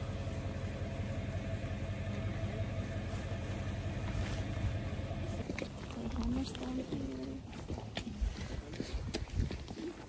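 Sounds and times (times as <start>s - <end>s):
vehicle engine idling: 0.0s - 9.3s.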